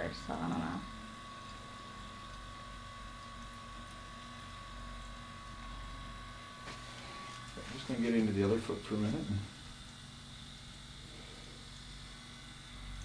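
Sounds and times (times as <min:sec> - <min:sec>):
massage gun motor buzzing: 0:00.0 - 0:13.0.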